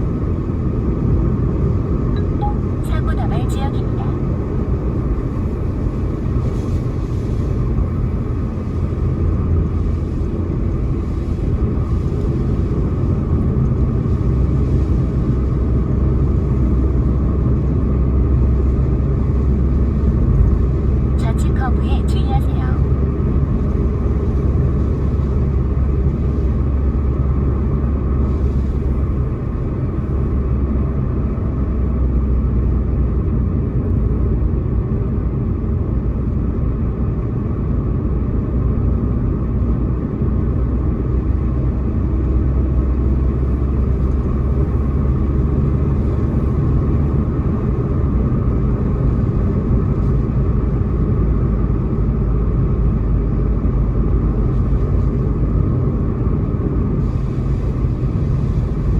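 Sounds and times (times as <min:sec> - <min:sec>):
car engine and tyre noise: 0:00.0 - 0:58.9.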